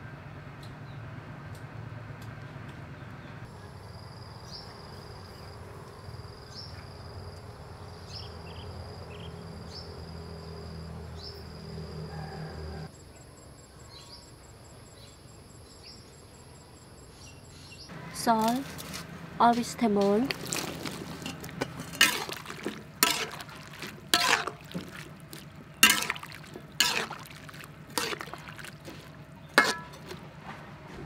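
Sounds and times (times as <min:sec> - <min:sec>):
insects droning: 0:03.5 - 0:30.0.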